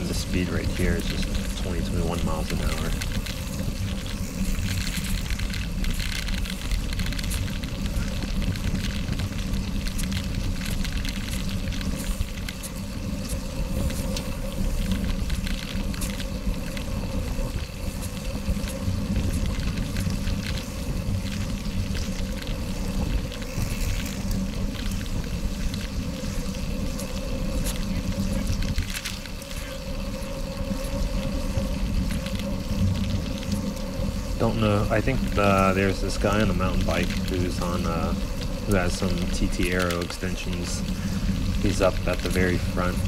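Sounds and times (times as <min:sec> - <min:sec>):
gravel and bike rattles: 0:00.0 - 0:43.0
tyres rolling on gravel: 0:00.0 - 0:43.0
wind on microphone: 0:00.0 - 0:43.0.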